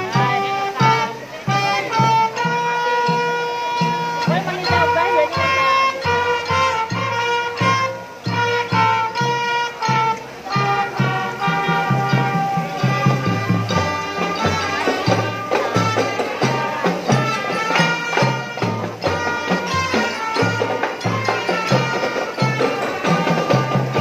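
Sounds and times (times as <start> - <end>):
drums marching beat: 0.0 - 24.0
reedy held melody: 0.0 - 24.0.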